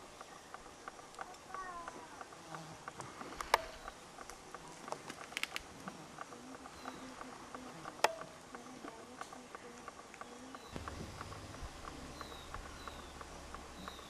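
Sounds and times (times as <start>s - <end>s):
small irregular clicks and ticks: 0.0s - 14.0s
sharp loud clicks: 0.1s - 14.0s.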